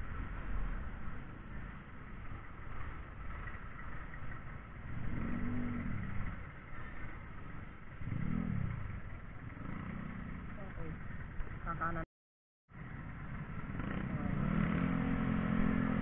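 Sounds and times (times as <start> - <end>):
motorcycle engine: 0.0 - 12.1, 12.7 - 16.0
road noise: 0.0 - 12.1, 12.7 - 16.0.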